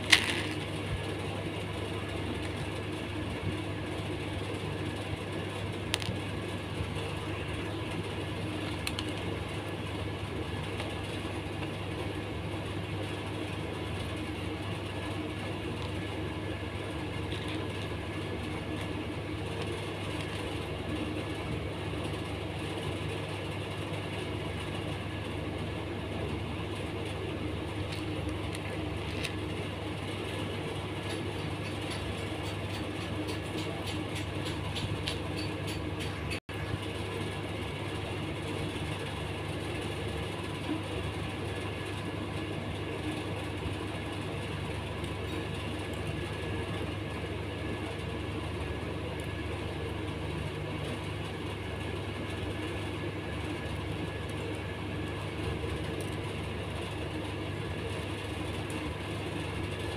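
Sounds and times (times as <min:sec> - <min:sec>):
low background hum and rumble: 0:00.0 - 0:59.9.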